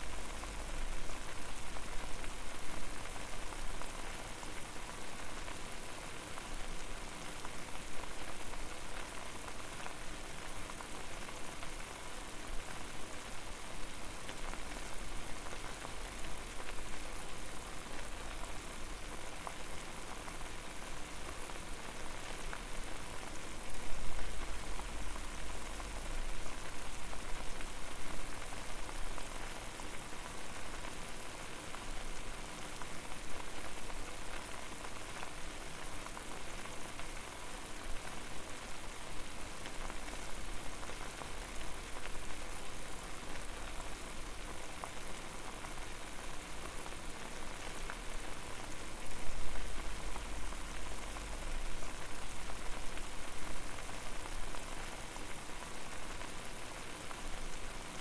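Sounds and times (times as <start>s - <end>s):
water boiling and bubbling: 0.0s - 58.0s.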